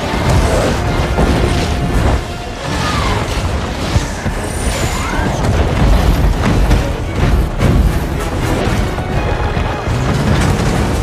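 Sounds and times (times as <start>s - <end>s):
booming debris impacts: 0.0s - 11.0s
heavy continuous rumble: 0.0s - 11.0s.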